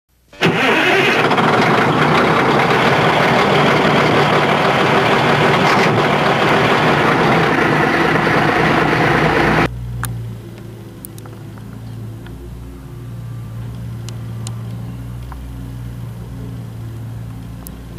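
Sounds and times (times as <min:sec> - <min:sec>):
skid steer loader engine: 0:00.4 - 0:17.9.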